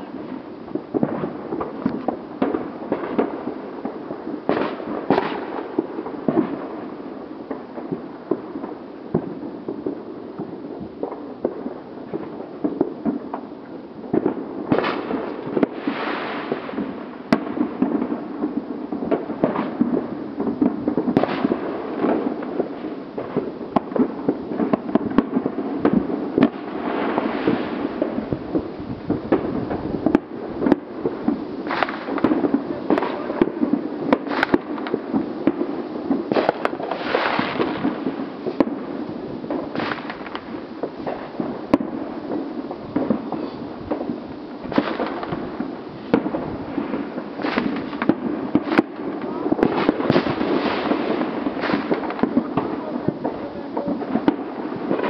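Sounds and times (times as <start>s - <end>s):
fireworks cracking and popping: 0.0s - 55.0s.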